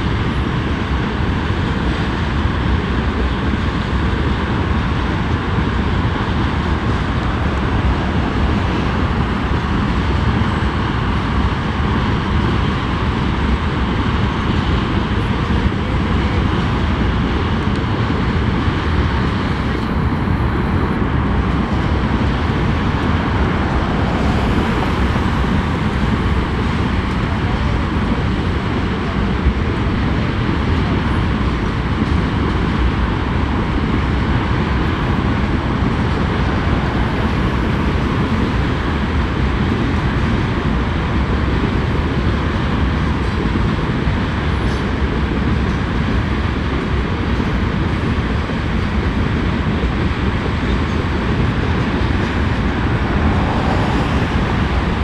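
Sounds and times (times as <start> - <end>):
freight train rumbling: 0.0 - 55.0.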